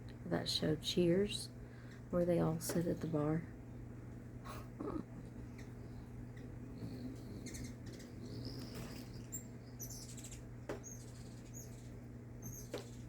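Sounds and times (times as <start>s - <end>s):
steady low hum: 0.0s - 13.0s
hummingbirds chirping: 0.4s - 13.0s.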